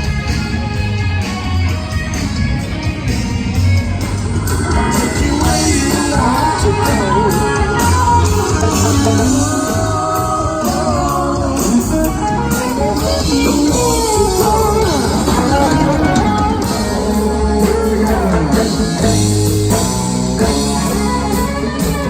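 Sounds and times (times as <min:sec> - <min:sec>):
electric guitar: 0:00.0 - 0:22.0
live rock band playing: 0:00.0 - 0:22.0
steady bass line: 0:00.0 - 0:22.0.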